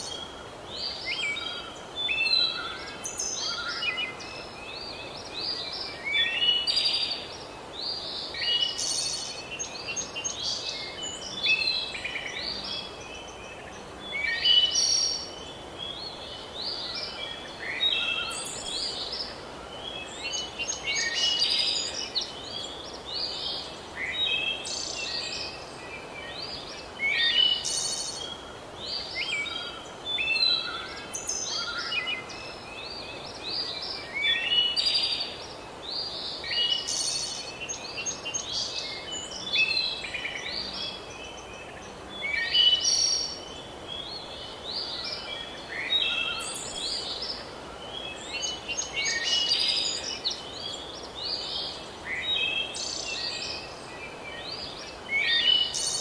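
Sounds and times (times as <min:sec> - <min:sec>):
birds singing and chirping: 0:00.0 - 0:56.0
steady background hiss: 0:00.0 - 0:56.0.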